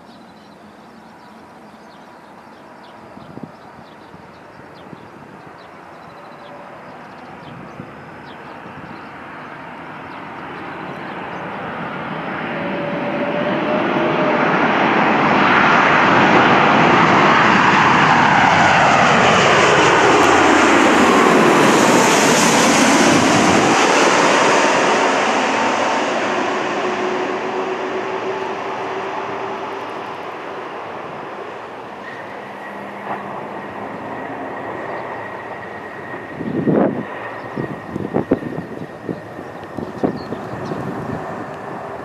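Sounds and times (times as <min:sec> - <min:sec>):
jet airliner flying overhead: 0:00.0 - 0:42.0.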